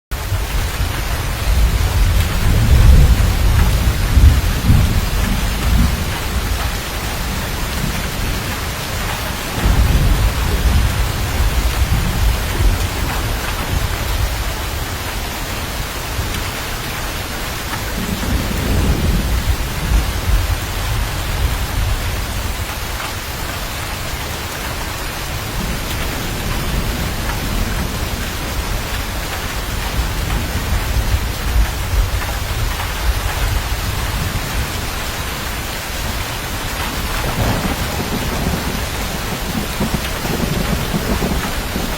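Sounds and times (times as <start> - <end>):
heavy rain: 0.0 - 41.9
rolling thunder: 0.1 - 15.4, 17.7 - 23.0, 25.2 - 41.9.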